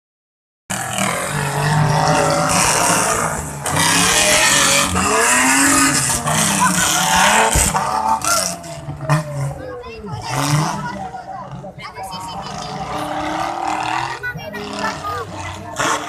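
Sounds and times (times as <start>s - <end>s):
off-road vehicle engine revving: 0.7s - 16.0s.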